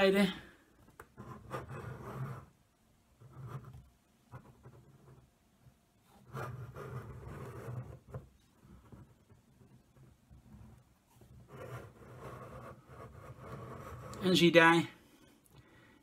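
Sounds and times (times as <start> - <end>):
hand rubbing plastic model: 0.7 - 14.8.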